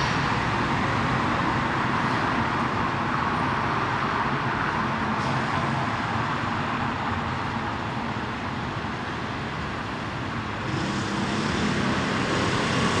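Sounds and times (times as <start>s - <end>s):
passing cars rumble: 0.0s - 13.0s.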